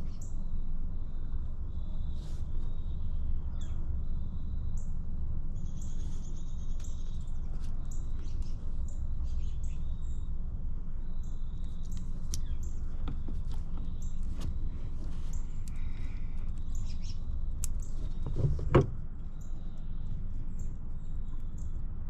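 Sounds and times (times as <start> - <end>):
birds chirping: 0.0 - 22.0
steady low rumble: 0.0 - 22.0.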